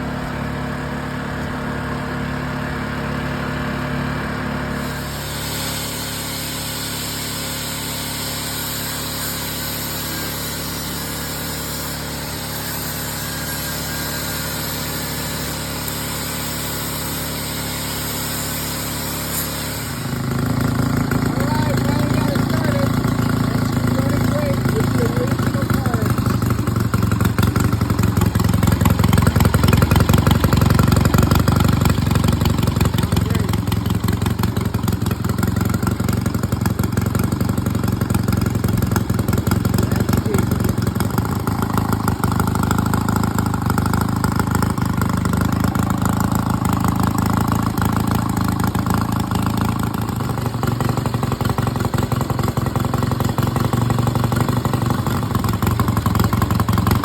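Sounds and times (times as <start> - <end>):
motorcycle engine idling: 6.1 - 57.0.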